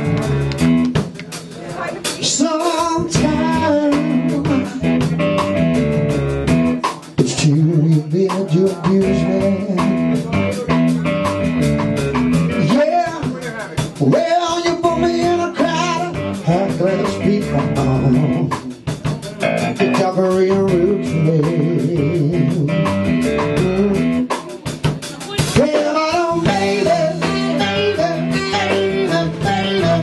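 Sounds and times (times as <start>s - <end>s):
rock band playing: 0.0s - 30.0s
person singing: 1.4s - 5.4s, 7.2s - 11.3s, 12.5s - 23.0s, 23.6s - 30.0s.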